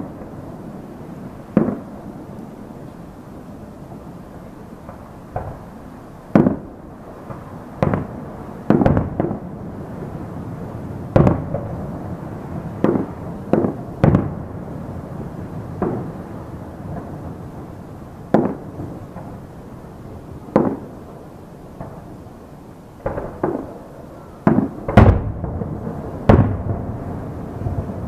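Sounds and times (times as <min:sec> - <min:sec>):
distant fireworks booming: 0:00.0 - 0:28.0.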